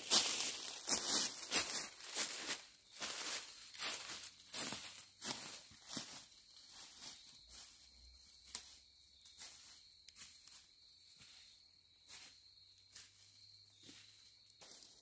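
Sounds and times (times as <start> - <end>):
footsteps on dry leaves: 0.0 - 15.0.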